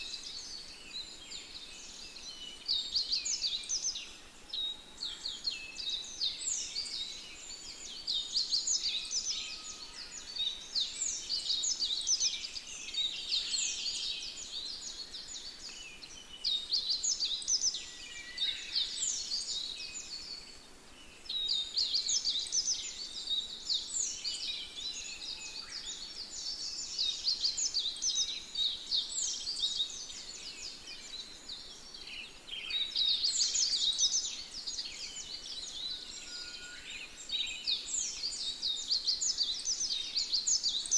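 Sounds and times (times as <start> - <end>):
forest birds chirping: 0.0 - 40.9.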